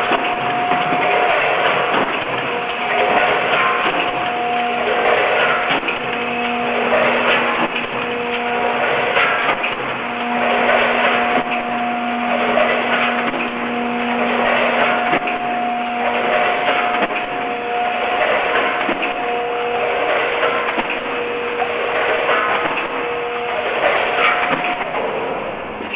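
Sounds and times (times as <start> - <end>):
packaging machine clatter: 0.0 - 25.9
steady tones: 0.0 - 25.9.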